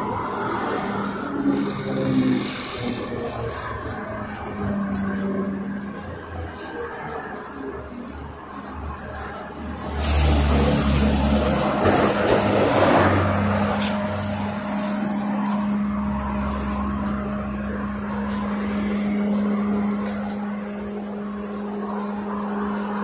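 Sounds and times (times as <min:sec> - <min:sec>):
trolleybus cabin road noise: 0:00.0 - 0:23.0.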